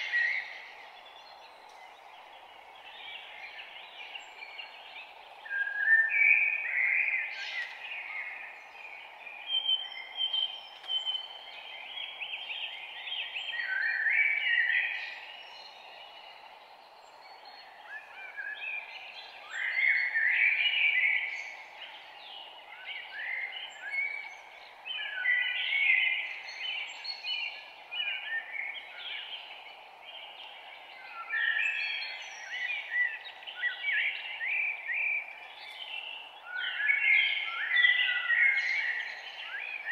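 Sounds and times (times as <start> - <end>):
songbirds singing and chirping: 0.0 - 39.9
steady background hiss: 0.0 - 39.9.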